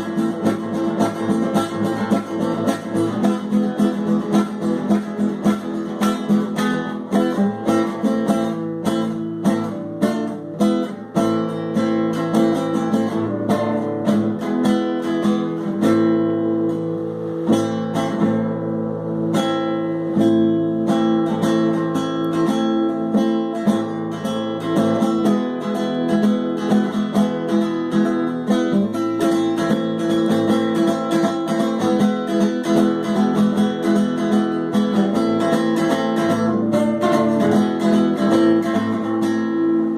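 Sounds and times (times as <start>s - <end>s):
acoustic guitar picked and strummed: 0.0s - 39.9s.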